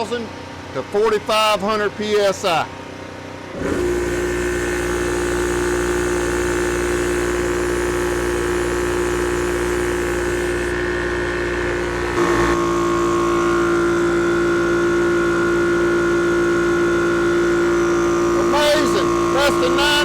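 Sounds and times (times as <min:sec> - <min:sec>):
air compressor humming: 0:00.0 - 0:20.0.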